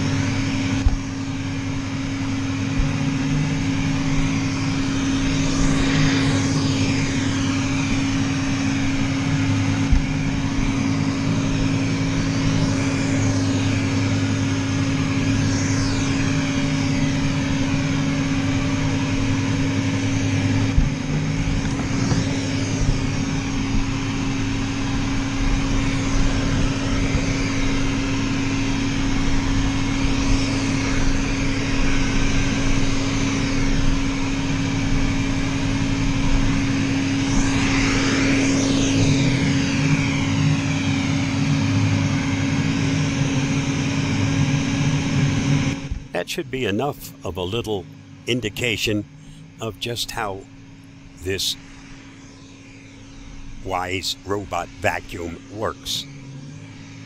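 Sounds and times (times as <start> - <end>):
robot vacuum motor drone: 0.0 - 46.0.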